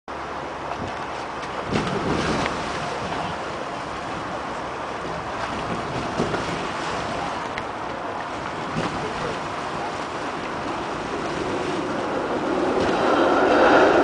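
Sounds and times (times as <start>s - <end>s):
water splashing and churning: 0.1s - 14.0s
wind noise on microphone: 0.7s - 14.0s.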